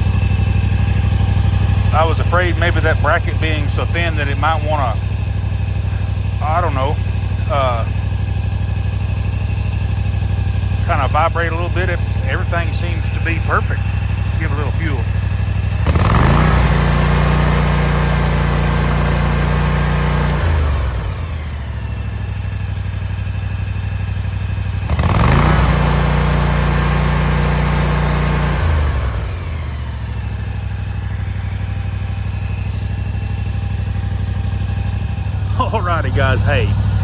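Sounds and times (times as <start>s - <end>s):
mower engine revving: 0.0s - 37.0s.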